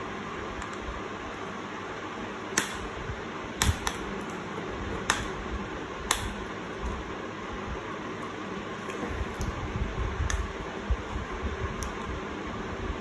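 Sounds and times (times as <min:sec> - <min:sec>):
steady fan hiss: 0:00.0 - 0:13.0.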